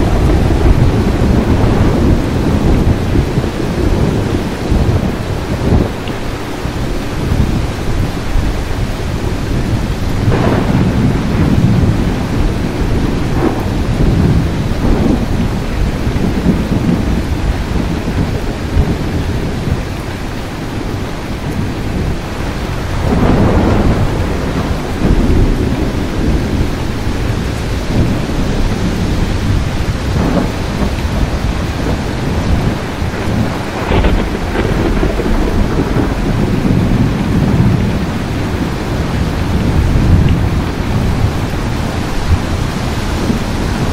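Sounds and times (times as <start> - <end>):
steady rain: 0.0 - 43.9
thunder rumbling: 0.0 - 43.9.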